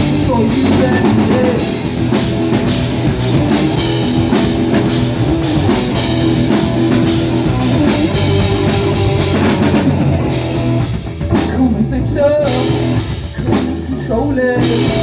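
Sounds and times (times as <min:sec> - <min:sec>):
drum kit beating: 0:00.0 - 0:15.0
electric guitar: 0:00.0 - 0:15.0.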